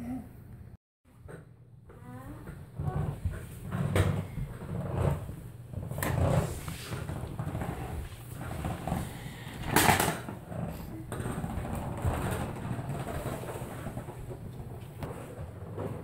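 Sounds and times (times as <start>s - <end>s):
plastic wheels rumbling on wood floor: 2.0s - 16.0s.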